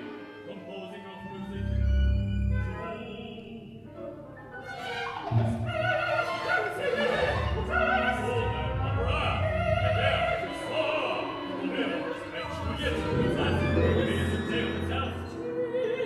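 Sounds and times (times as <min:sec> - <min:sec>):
operatic singing with wide vibrato: 0:00.0 - 0:16.0
orchestra: 0:00.0 - 0:16.0.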